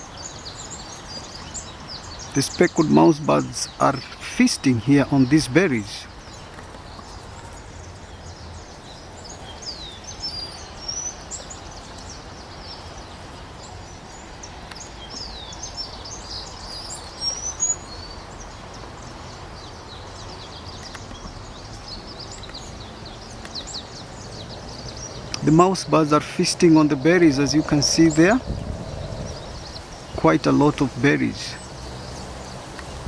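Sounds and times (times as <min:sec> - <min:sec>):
low background noise: 0:00.0 - 0:33.0
small birds chirping: 0:00.0 - 0:33.0.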